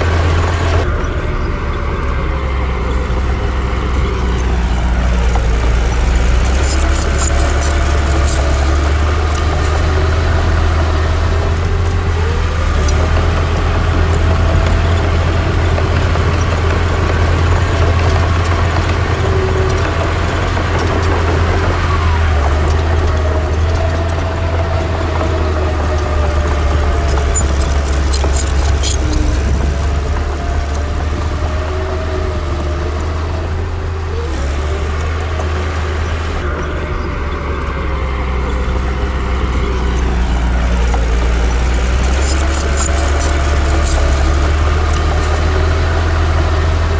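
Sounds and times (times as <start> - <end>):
heavy diesel engine drone: 0.0 - 46.9.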